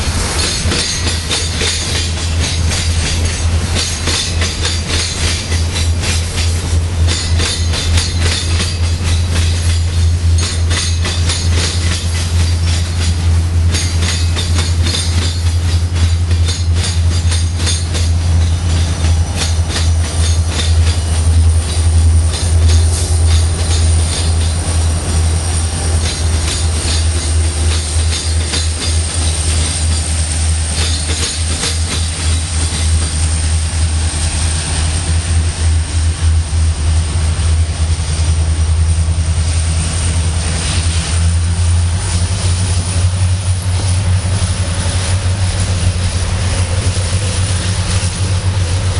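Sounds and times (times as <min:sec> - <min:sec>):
deep train rumble: 0:00.0 - 0:48.9
diesel locomotives passing: 0:00.0 - 0:48.9
train wheels clicking over rail joints: 0:00.0 - 0:48.9.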